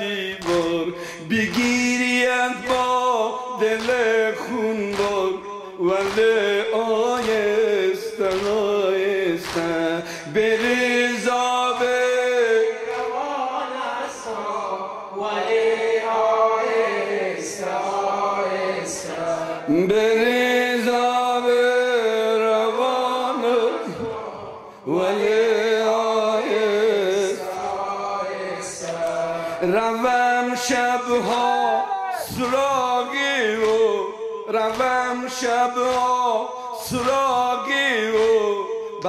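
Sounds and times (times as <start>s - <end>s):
man chanting a lament: 0.0s - 15.1s, 18.2s - 39.0s.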